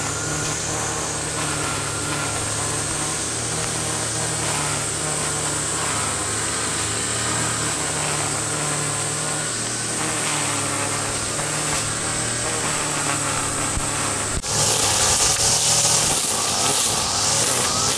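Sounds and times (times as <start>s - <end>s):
brush cutter engine idling: 0.0s - 17.9s
cicadas droning: 0.0s - 17.9s.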